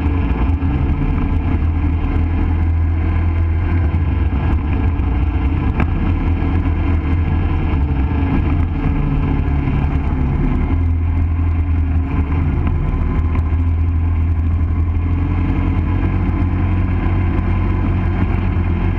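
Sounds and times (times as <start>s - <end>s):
quad engine running: 0.0s - 18.9s.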